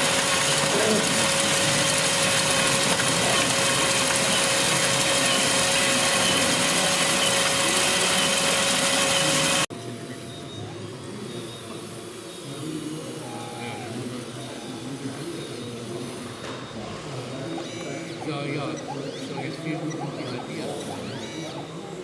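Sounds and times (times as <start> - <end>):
small motor whining: 0.0 - 22.0.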